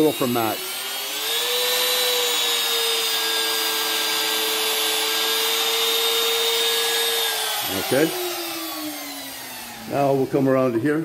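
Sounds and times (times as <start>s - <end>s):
router motor high whine: 0.0s - 11.0s.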